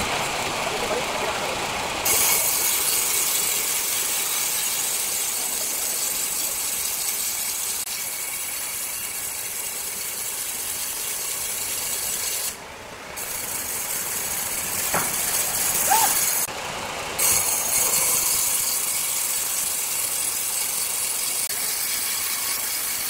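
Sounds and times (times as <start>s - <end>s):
circular saw cutting wood: 0.0s - 23.0s.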